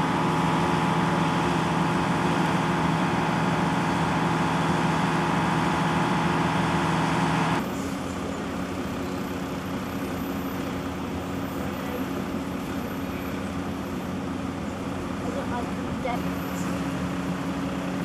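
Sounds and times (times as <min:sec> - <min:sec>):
heavy vehicle engine running: 0:00.0 - 0:18.0
low engine hum: 0:00.0 - 0:18.0.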